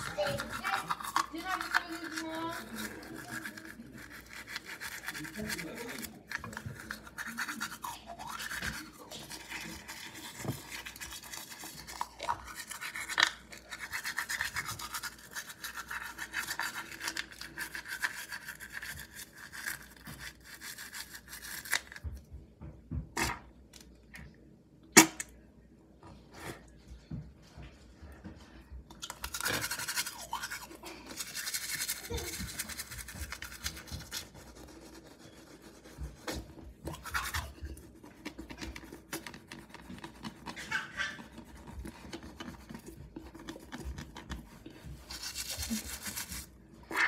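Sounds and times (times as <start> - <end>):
toothbrush scrubbing teeth: 0.0 - 22.1, 28.3 - 47.0.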